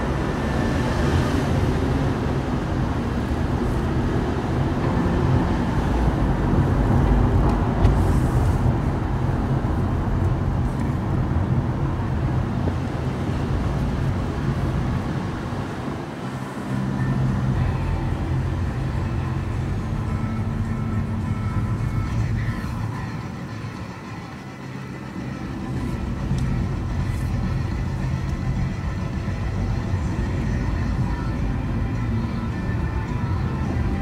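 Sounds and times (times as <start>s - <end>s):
car interior rumble: 0.0s - 34.0s.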